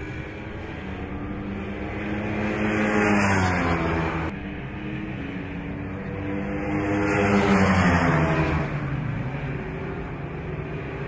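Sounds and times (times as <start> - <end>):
racing motorcycle passing by: 0.0 - 11.0.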